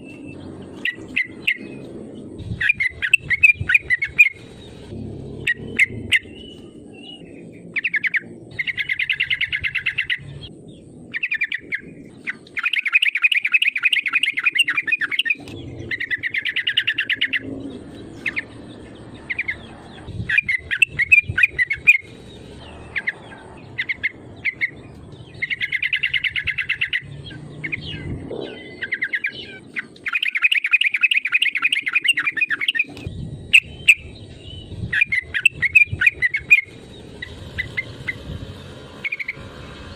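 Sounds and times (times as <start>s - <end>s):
bird chirps: 0.0s - 39.9s
bird singing chattering notes: 0.0s - 39.9s.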